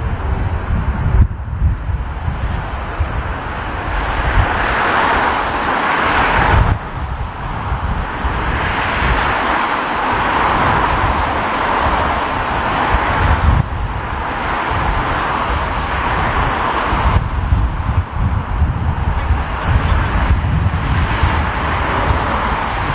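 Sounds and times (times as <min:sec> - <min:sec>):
storm wind buffeting microphone: 0:00.0 - 0:22.9.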